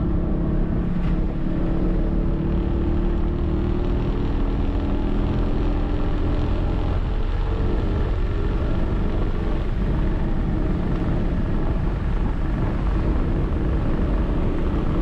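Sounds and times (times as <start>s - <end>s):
car engine deep drone: 0.0s - 15.0s
road and wind noise: 0.0s - 15.0s.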